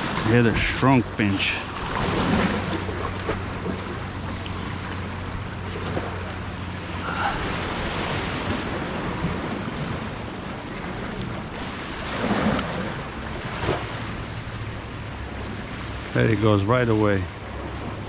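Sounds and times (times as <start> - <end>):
ocean waves breaking: 0.0 - 18.0.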